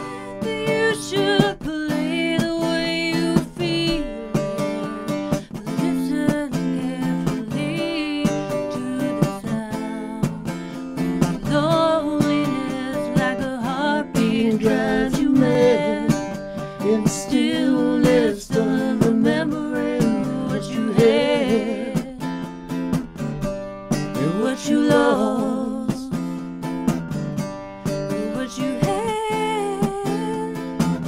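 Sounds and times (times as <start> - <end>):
woman singing with vibrato: 0.0 - 22.3, 24.2 - 26.2, 28.1 - 30.7
strummed acoustic guitar: 0.0 - 31.0.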